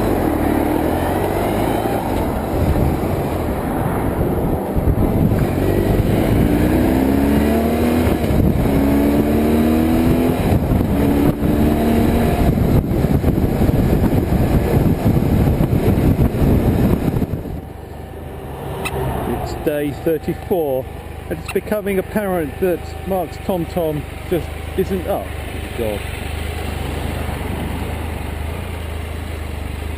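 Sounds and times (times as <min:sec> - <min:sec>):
motorcycle engine accelerating: 0:00.0 - 0:29.9
wind and road rumble: 0:00.0 - 0:29.9.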